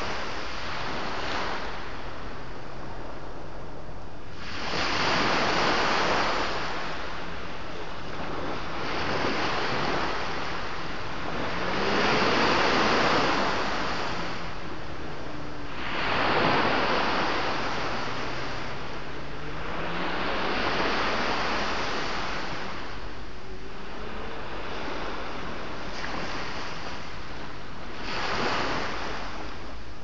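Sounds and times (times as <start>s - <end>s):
sea waves breaking on shore: 0.0s - 30.0s.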